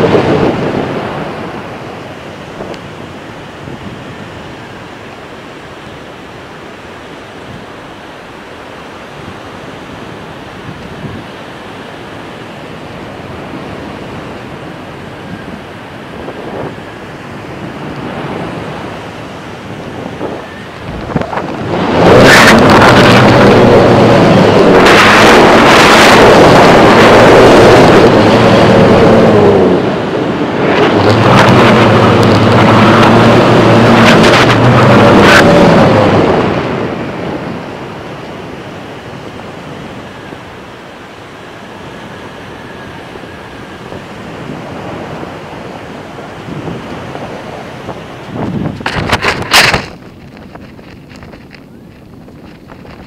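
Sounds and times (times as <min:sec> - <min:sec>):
wind buffeting microphone: 0:00.0 - 0:06.3, 0:08.9 - 0:53.0
low droning buzz: 0:00.0 - 0:53.0
surf: 0:00.0 - 0:53.0.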